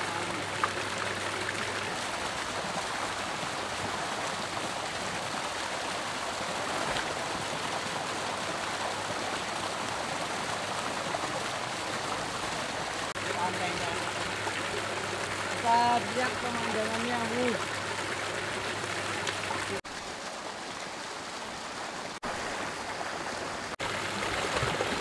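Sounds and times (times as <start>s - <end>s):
water gushing into a pool: 0.0s - 25.0s.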